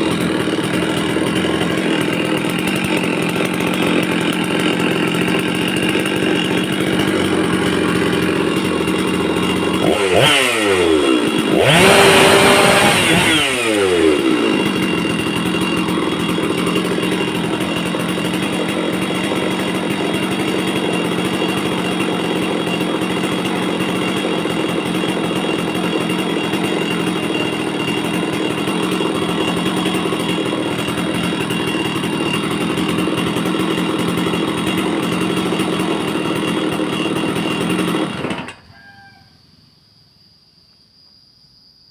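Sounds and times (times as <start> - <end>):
chainsaw idling and revving: 0.0 - 39.1.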